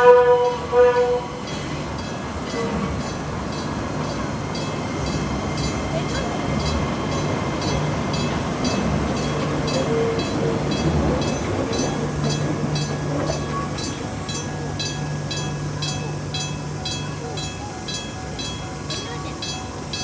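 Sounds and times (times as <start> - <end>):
level crossing warning bell: 0.0 - 20.0
train running: 0.0 - 20.0.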